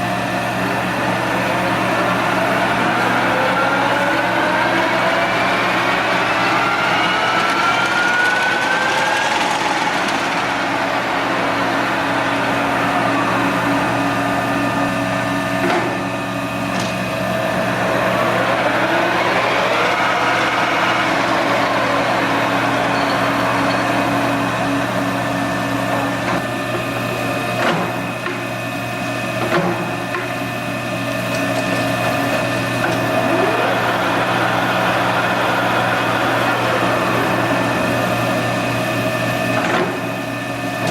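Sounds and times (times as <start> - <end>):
lathe gearing whine: 0.0 - 40.9.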